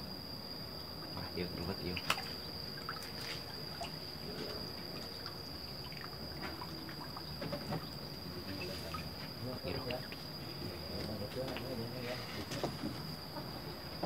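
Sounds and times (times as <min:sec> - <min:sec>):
insects droning: 0:00.0 - 0:14.0
distant voices: 0:00.9 - 0:14.0.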